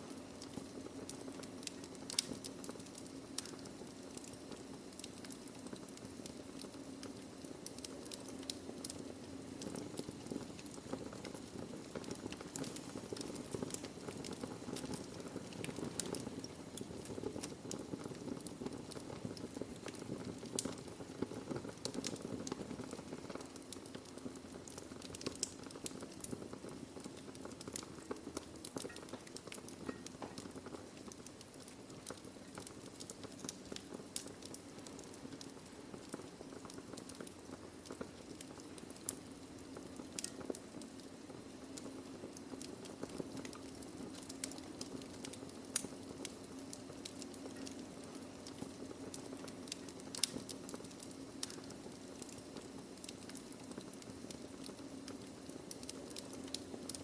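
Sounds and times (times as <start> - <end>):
burning logs popping: 0.0 - 57.0
fire hissing and crackling: 0.0 - 57.0.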